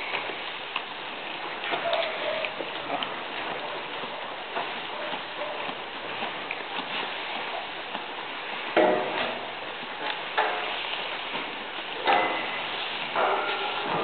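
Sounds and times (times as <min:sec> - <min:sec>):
steady rustling hiss: 0:00.0 - 0:14.0.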